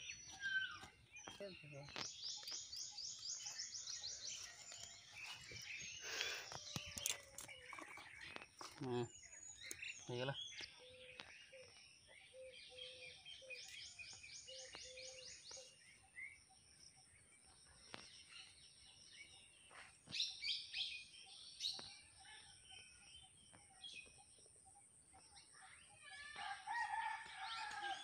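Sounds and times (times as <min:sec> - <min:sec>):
wild birds chirping and singing: 0:00.0 - 0:28.0.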